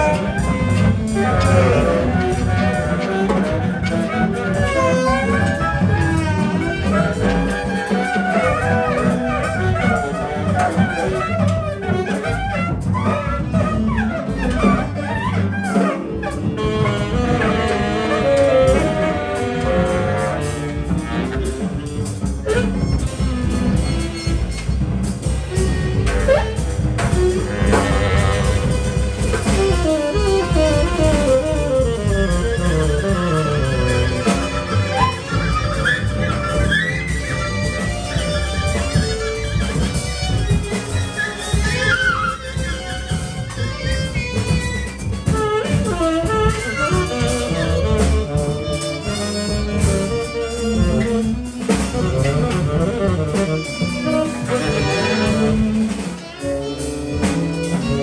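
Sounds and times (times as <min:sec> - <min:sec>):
bowed strings: 0:00.0 - 0:58.0
double bass: 0:00.0 - 0:58.0
drums: 0:00.0 - 0:58.0
piano: 0:00.0 - 0:58.0
saxophones: 0:00.0 - 0:58.0.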